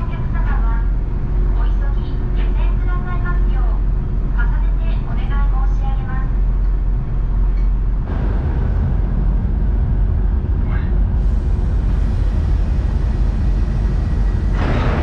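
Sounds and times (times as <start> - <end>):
ferry low rumble and rushing: 0.0 - 15.0.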